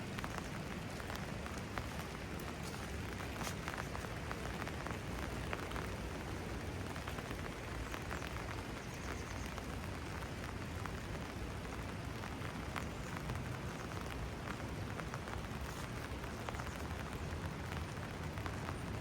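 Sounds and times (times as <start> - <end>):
rain falling: 0.0 - 19.0
raindrops ticking: 0.0 - 19.0.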